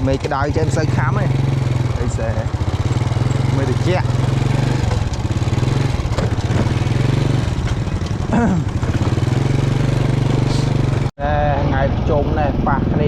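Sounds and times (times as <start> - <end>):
small motorcycle engine running: 0.0 - 12.6.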